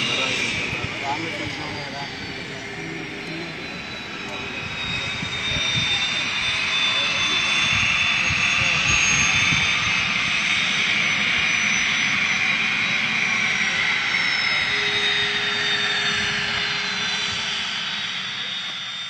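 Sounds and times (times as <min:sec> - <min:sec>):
jet engines with turbine whine: 0:00.0 - 0:19.0.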